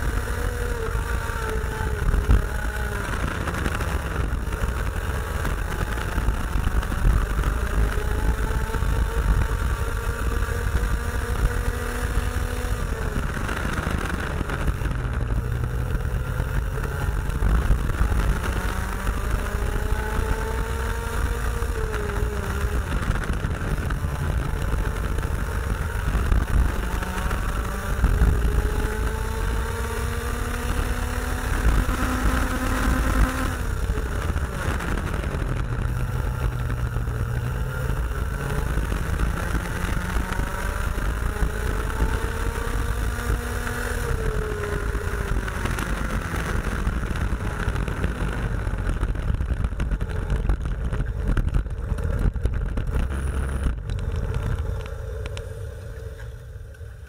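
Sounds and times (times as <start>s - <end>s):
kart engine revving: 0.0s - 57.0s
wind noise on microphone: 0.0s - 57.0s.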